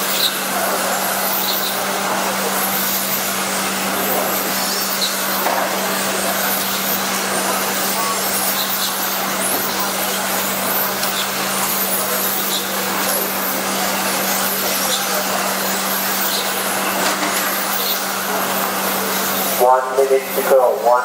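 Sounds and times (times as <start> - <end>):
electric toy cars whirring: 0.0 - 20.7.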